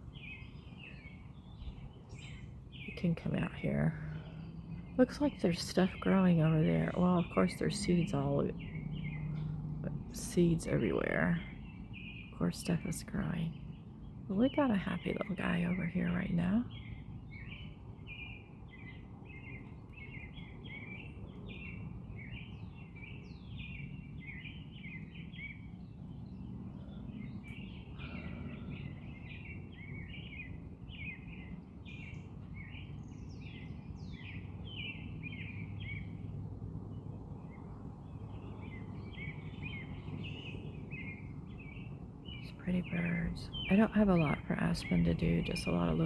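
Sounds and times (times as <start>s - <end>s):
low outdoor rumble: 0.0s - 46.0s
small birds chirping: 0.0s - 46.0s.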